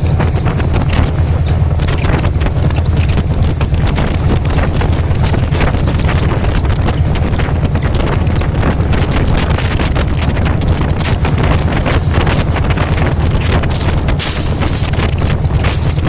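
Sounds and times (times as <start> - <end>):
train rumbling: 0.0 - 16.0
wheels clattering over rails: 0.0 - 16.0
wind buffeting microphone: 0.0 - 16.0.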